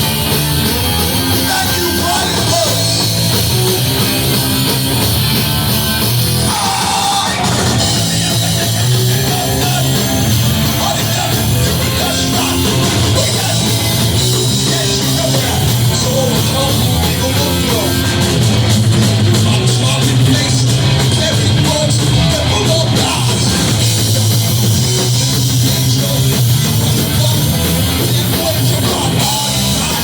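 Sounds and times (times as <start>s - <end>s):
hardcore band playing live: 0.0s - 30.0s.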